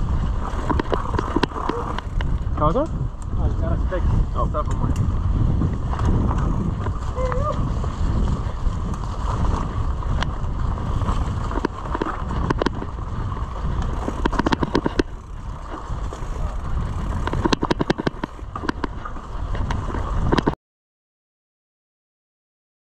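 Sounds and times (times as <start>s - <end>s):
bike rattling clicks: 0.0s - 20.6s
wind rumble on microphone: 0.0s - 20.6s.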